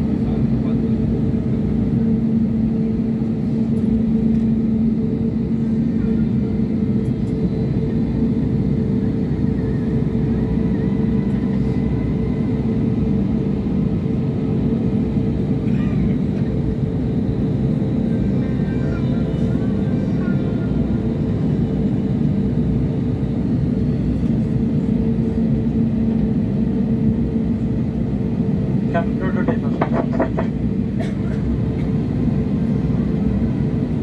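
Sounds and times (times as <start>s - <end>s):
jet engines droning in cabin: 0.0s - 34.0s.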